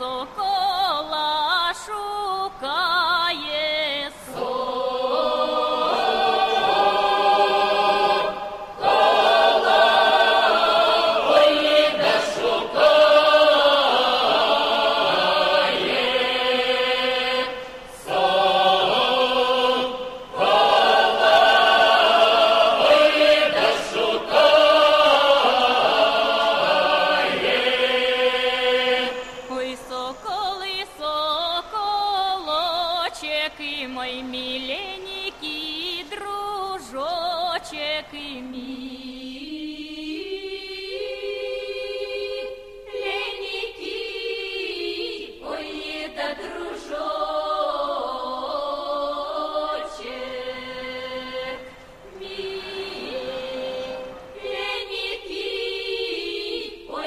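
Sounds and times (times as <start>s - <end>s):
folk choir singing in harmony: 0.0s - 57.0s.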